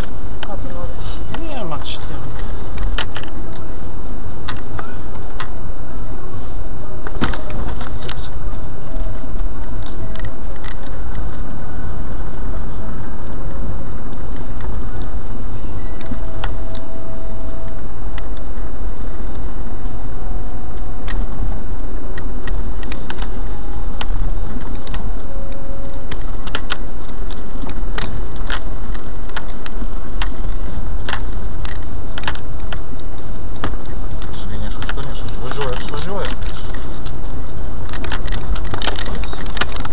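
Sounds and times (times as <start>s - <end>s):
engine and road drone: 0.0s - 39.9s.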